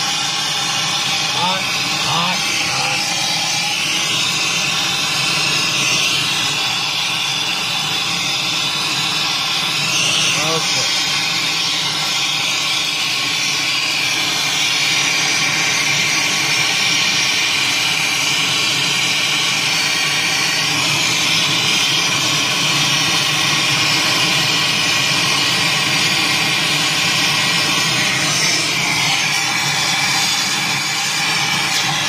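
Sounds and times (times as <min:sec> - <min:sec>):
torch flame hissing: 0:00.0 - 0:32.0.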